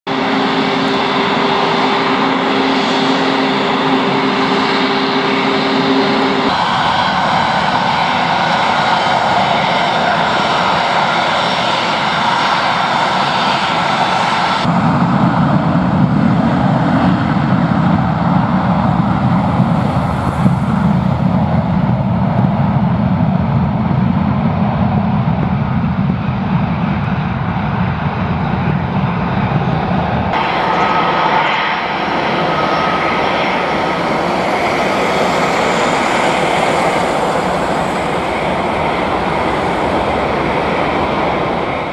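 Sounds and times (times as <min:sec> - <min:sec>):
jet engines at takeoff power: 0:00.1 - 0:41.9.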